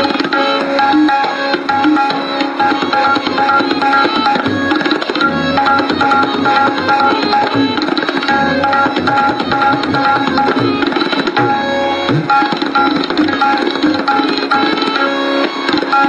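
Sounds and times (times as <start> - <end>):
repeated melodic loop: 0.0 - 16.0
tabla strokes: 0.0 - 16.0.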